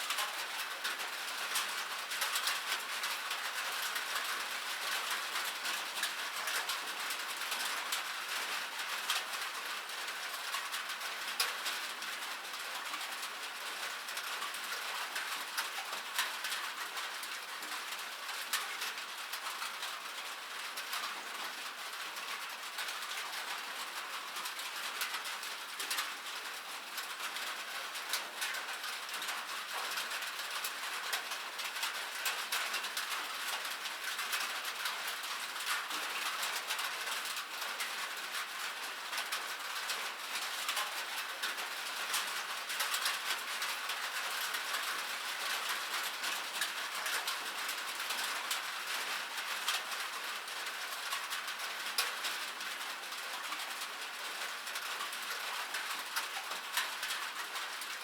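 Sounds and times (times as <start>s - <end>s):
rain falling on metal: 0.0s - 58.0s.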